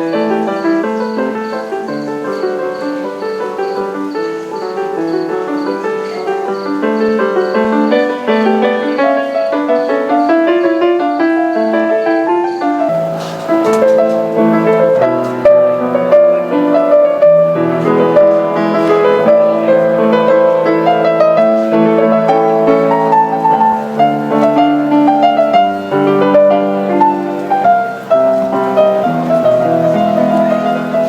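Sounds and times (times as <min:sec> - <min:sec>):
grand piano playing: 0:00.0 - 0:31.0.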